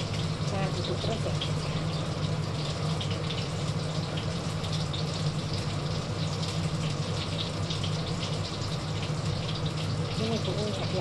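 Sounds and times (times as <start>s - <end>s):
chicken frying in hot oil: 0.0s - 11.0s
range hood fan humming: 0.0s - 11.0s.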